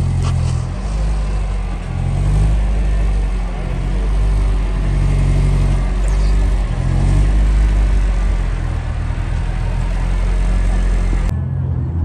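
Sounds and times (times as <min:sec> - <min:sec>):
car engine idling: 0:00.0 - 0:11.3.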